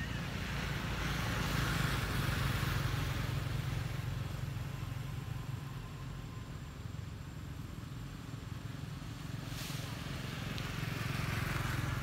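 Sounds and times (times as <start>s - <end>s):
vehicle passing on road: 0.0s - 12.0s.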